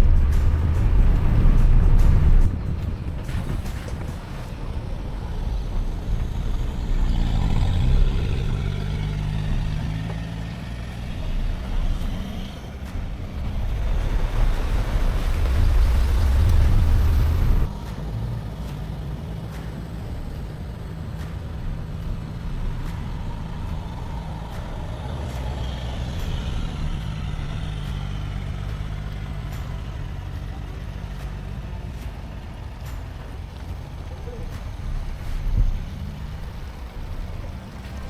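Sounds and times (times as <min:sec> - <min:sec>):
loud rushing noise: 0:00.0 - 0:38.0
vehicle engine running: 0:00.0 - 0:38.0.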